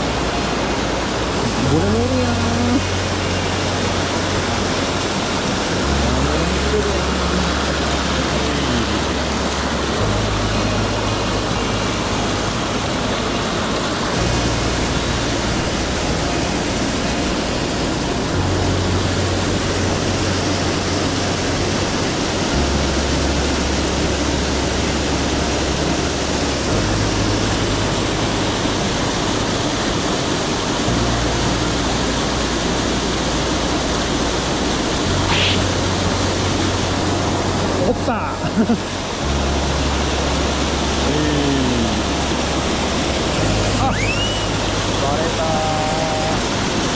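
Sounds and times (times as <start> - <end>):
background music with bass: 0.0 - 46.9
stream water rushing: 0.0 - 46.9.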